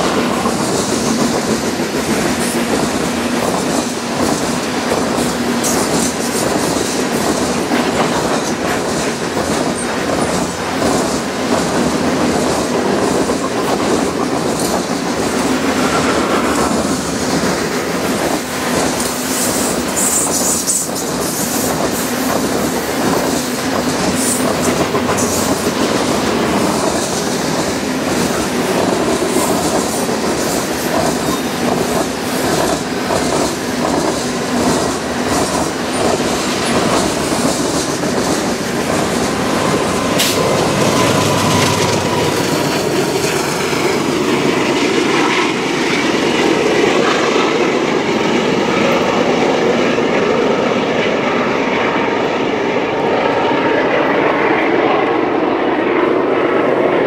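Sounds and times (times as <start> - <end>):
clickety-clack over rail joints: 0.0 - 55.2
train wheels rumbling on rails: 0.0 - 57.0.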